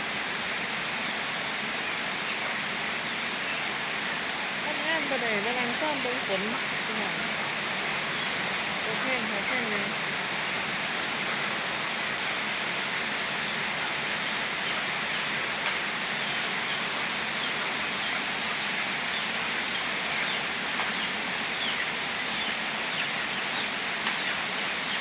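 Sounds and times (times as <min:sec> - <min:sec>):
steady rain hissing: 0:00.0 - 0:25.0.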